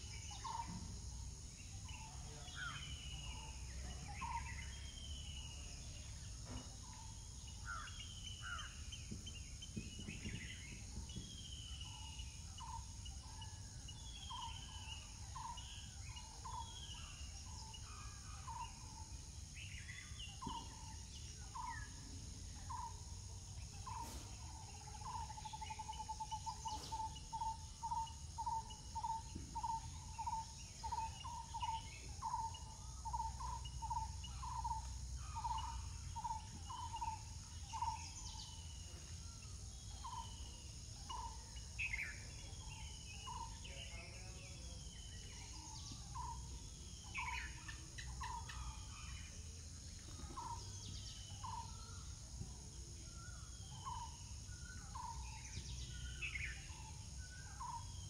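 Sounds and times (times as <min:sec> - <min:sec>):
insect hum: 0:00.0 - 0:58.0.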